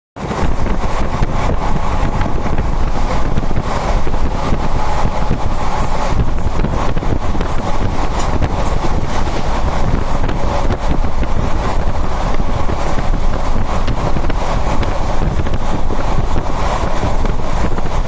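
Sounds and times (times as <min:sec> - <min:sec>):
train wheels rumbling on rails: 0:00.2 - 0:18.0
wind on microphone: 0:00.2 - 0:18.0.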